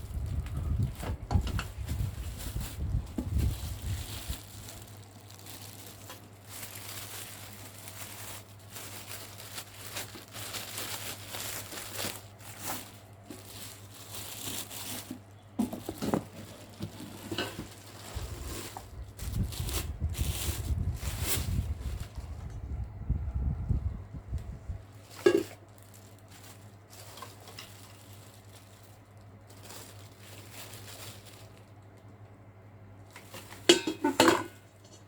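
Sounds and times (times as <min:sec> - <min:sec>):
plastic packaging crinkling: 0:00.0 - 0:22.6, 0:24.9 - 0:32.3, 0:33.0 - 0:33.9
steady low hum: 0:00.0 - 0:35.0.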